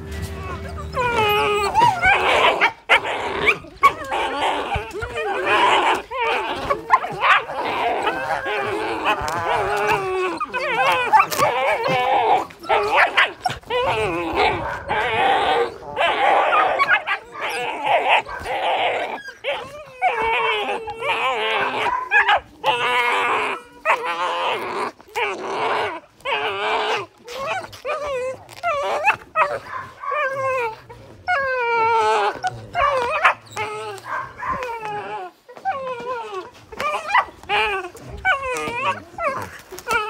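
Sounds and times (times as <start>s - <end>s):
puppies yelping and whining: 0.0s - 40.0s.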